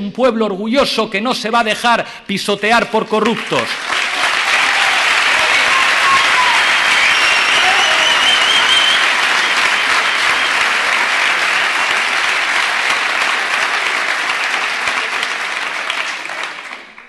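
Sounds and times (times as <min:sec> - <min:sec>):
large audience applauding: 0:03.2 - 0:17.0.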